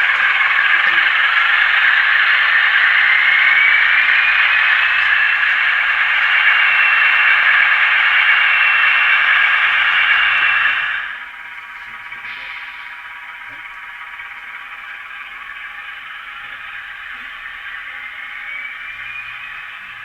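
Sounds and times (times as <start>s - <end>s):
diesel engine sound with whine: 0.0s - 20.0s.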